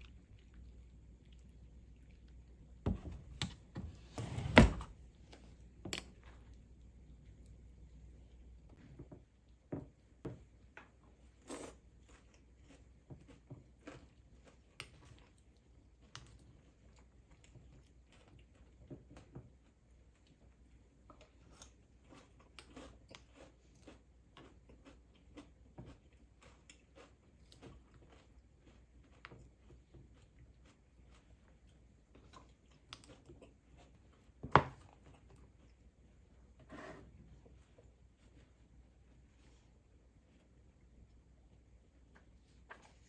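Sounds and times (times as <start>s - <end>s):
low room hum: 0.0s - 43.0s.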